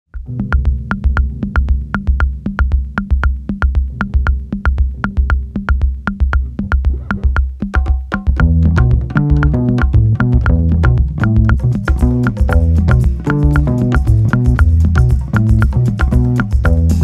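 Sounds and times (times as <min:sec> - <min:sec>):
bass line: 0:00.1 - 0:17.0
electronic music with drum-machine beat: 0:00.2 - 0:17.0.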